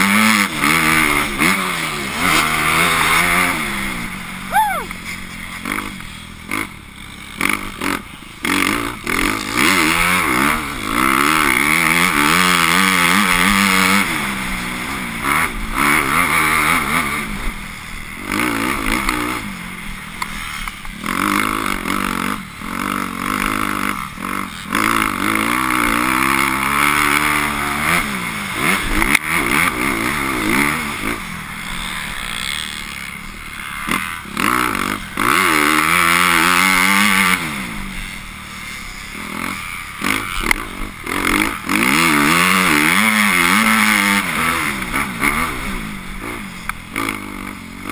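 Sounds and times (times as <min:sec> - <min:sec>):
motocross bike engine revving: 0:00.0 - 0:47.9.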